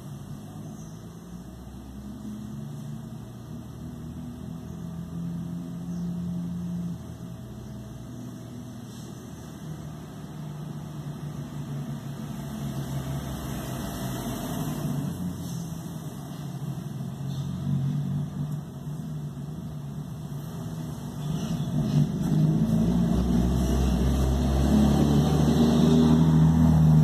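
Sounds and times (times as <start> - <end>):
low mechanical hum: 0.0 - 24.2.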